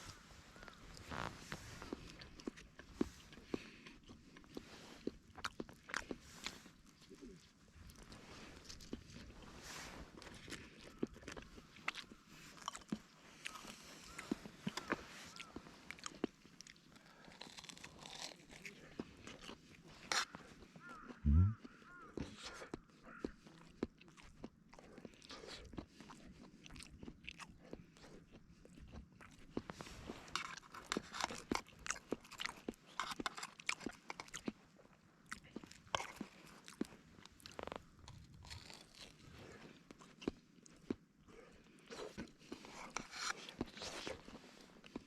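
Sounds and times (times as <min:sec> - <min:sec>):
person crunching and chewing: 0:00.6 - 0:09.5, 0:10.1 - 0:45.0.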